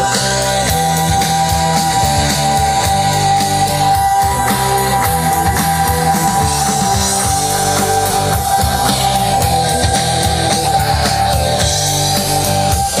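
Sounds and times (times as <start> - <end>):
rock music through speakers: 0.0 - 13.0
steady high tone: 0.0 - 13.0.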